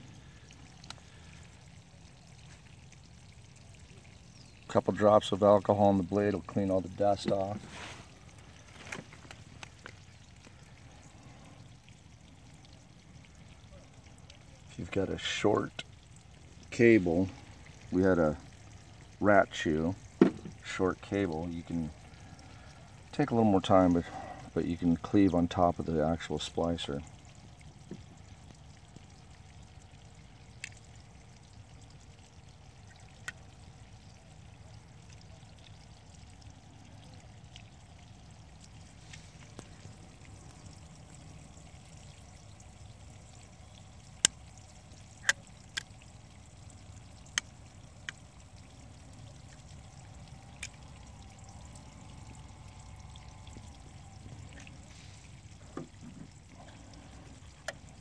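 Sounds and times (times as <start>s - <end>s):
faint rumble and hiss: 0.0s - 58.0s.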